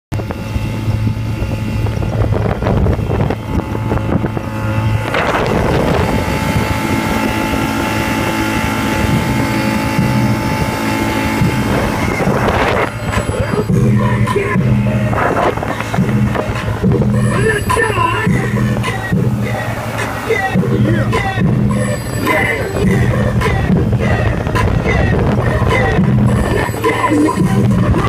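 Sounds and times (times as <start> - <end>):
outboard motor running: 0.1 - 28.0
wind buffeting microphone: 0.2 - 28.0.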